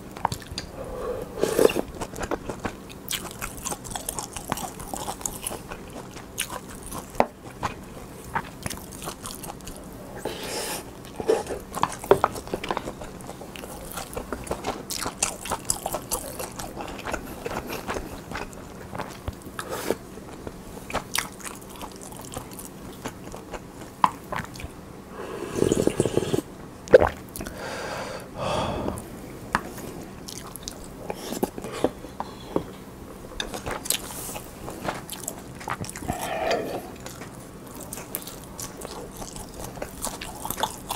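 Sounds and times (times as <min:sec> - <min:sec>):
chewing and biting mouth sounds: 0:00.0 - 0:00.7, 0:01.4 - 0:09.9, 0:10.9 - 0:24.8, 0:29.6 - 0:32.8, 0:33.4 - 0:40.9.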